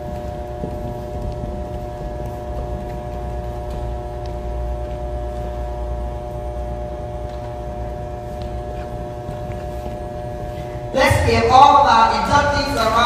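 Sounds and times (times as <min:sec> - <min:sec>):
room hum with low rumble: 0:00.0 - 0:13.0.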